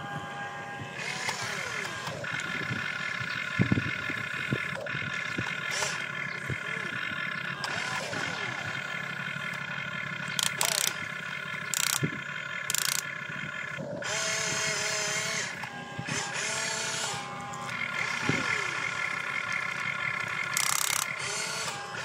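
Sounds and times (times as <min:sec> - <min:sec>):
electric motors and gearboxes whining: 0:00.0 - 0:22.0.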